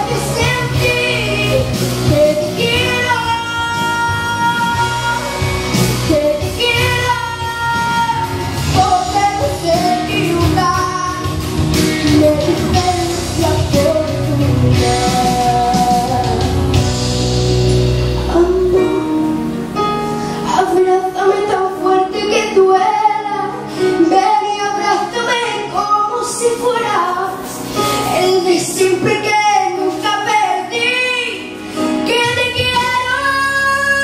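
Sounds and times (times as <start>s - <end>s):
girl singing pop song: 0.0s - 16.9s, 18.2s - 34.0s
piano accompaniment: 0.0s - 34.0s.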